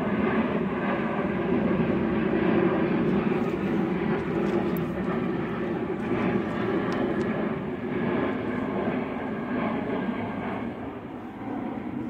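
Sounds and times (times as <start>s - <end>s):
airplane engine drone overhead: 0.0s - 12.0s.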